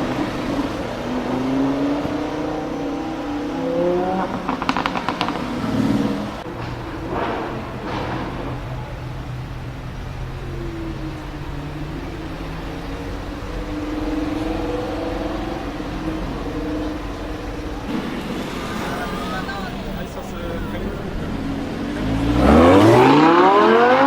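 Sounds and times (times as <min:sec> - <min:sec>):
sports car engine running: 0:00.0 - 0:24.0.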